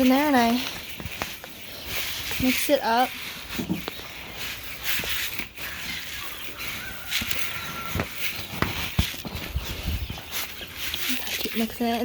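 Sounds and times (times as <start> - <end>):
hands stirring dry grain: 0.0 - 12.0.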